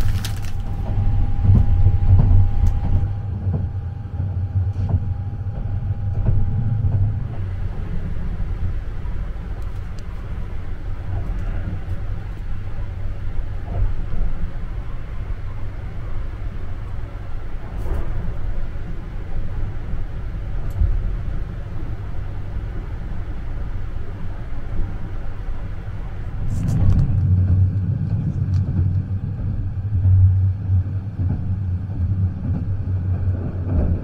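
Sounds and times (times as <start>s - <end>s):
train rumbling in motion: 0.0s - 34.0s.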